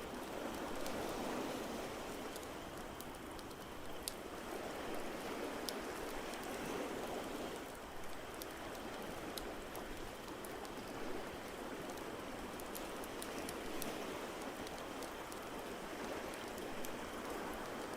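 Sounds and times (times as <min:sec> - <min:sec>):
ocean surf: 0:00.0 - 0:17.9
wood fire crackling: 0:00.0 - 0:17.9.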